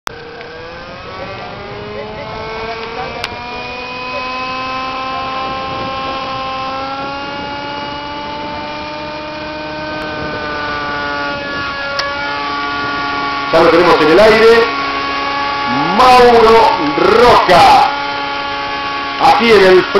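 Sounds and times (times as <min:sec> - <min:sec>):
model helicopter engine whine: 0:00.1 - 0:19.9.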